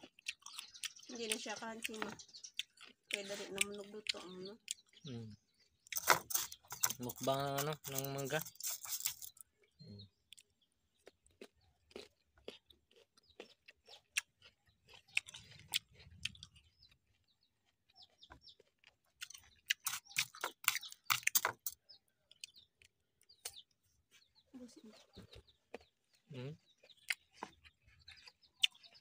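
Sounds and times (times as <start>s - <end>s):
chewing crunchy fruit: 0.0s - 29.0s.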